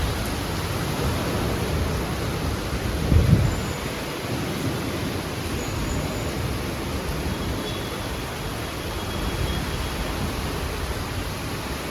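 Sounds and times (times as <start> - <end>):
heavy rain in strong wind: 0.0 - 11.9.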